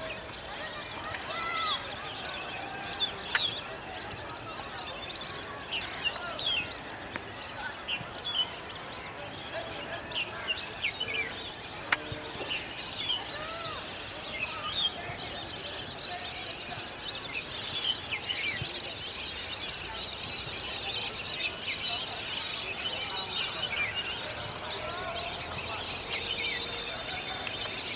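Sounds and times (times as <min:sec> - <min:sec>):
outdoor background noise: 0:00.0 - 0:27.9.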